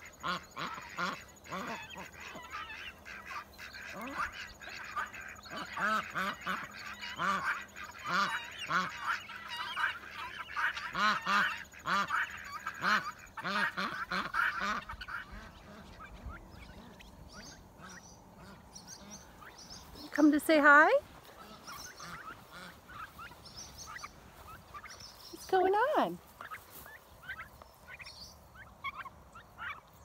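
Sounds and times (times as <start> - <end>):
ducks honking quacks: 0.0 - 30.0.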